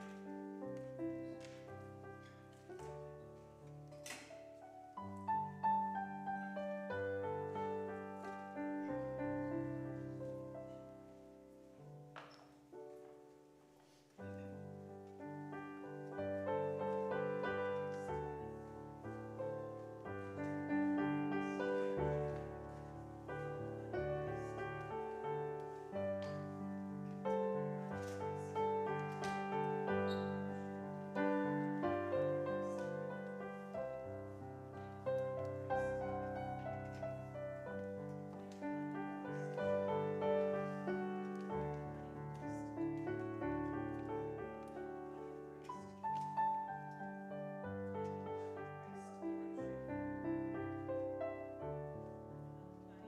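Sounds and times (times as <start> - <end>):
digital piano chords: 0.0 - 13.6, 14.2 - 53.0.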